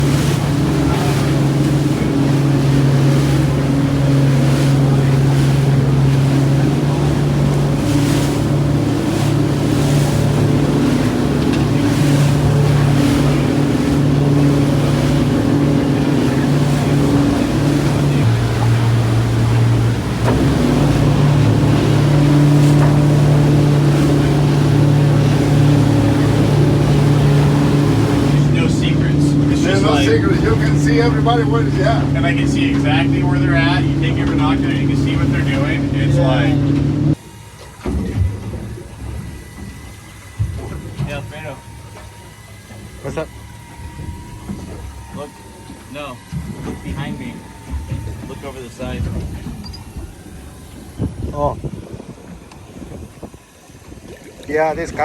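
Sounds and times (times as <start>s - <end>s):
motorboat engine running: 0.0s - 55.0s
wind and water rushing: 0.0s - 55.0s.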